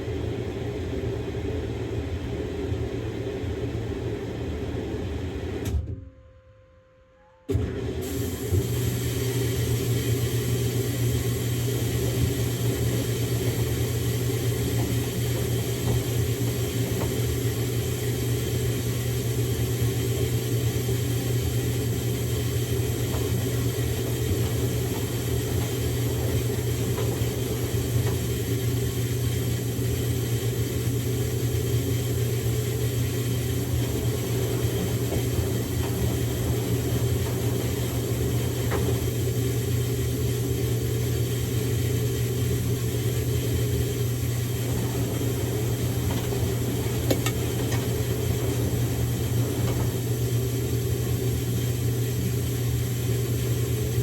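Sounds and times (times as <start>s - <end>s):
washing machine humming: 0.0s - 5.9s, 7.5s - 54.0s.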